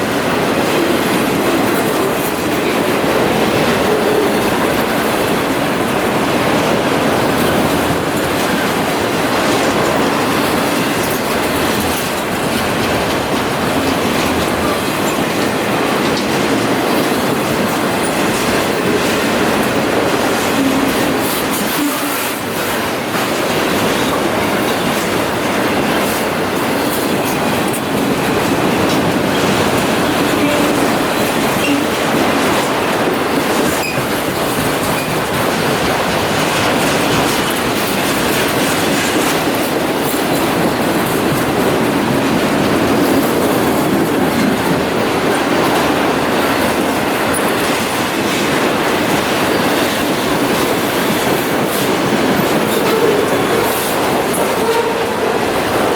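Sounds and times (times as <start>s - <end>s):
freight train cars rumbling past: 0.0s - 55.9s
wheels clattering over rail joints: 0.0s - 55.9s.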